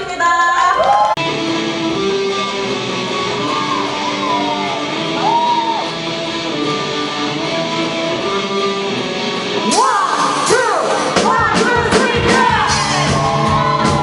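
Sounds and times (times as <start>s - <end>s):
bent electric guitar notes: 1.2s - 14.0s
live band playing: 1.2s - 14.0s.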